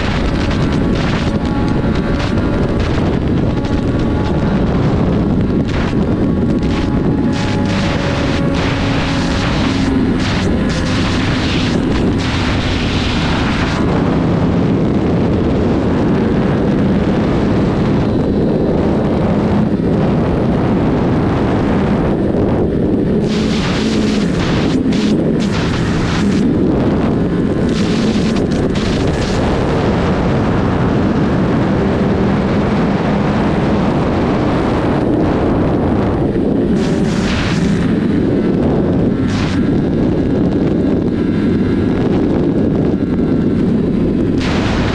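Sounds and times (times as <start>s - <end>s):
motorcycle engine running hard: 0.0s - 44.9s
wind rush on microphone: 0.0s - 44.9s.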